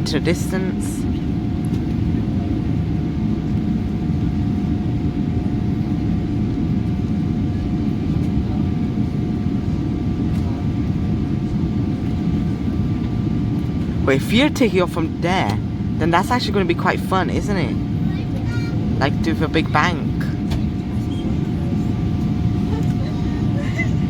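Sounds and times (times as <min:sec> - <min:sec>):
aircraft cabin low rumble: 0:00.0 - 0:24.0
jet engine whine: 0:00.0 - 0:24.0.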